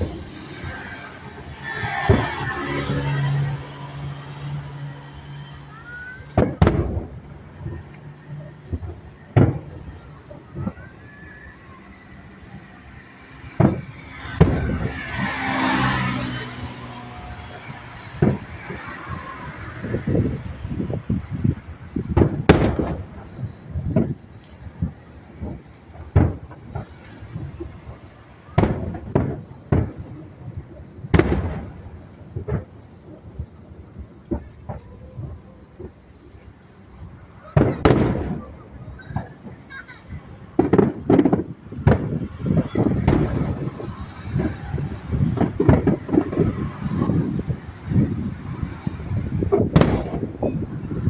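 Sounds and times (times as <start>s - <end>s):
fireworks booming: 0.0s - 51.0s.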